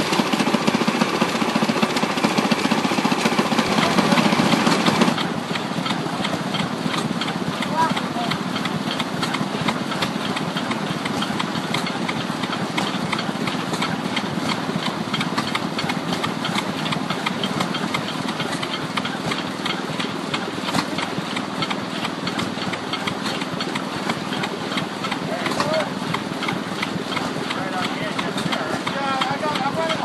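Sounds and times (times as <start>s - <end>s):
stationary gas engine clattering: 0.0s - 30.0s.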